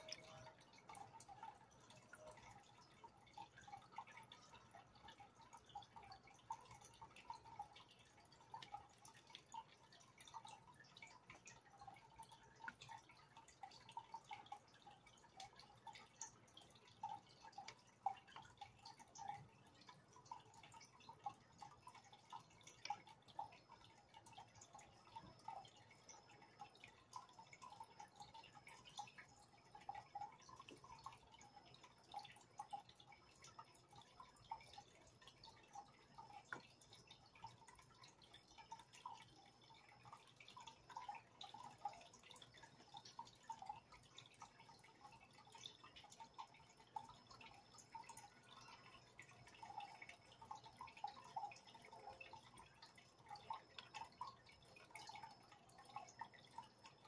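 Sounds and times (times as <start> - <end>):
aquarium water plinks and bubbling: 0.0 - 57.0.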